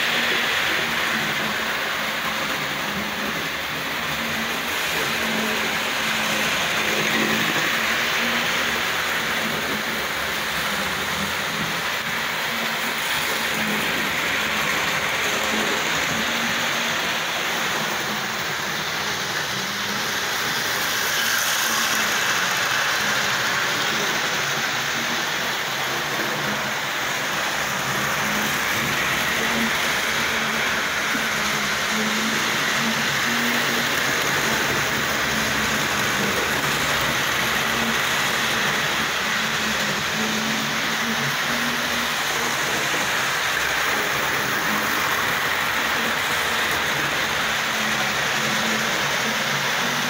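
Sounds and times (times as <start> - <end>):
model trains rolling: 0.0 - 50.0.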